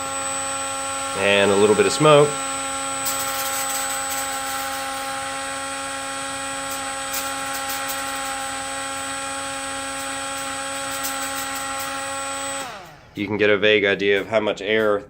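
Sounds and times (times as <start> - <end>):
ducted fan high whine: 0.0 - 15.0.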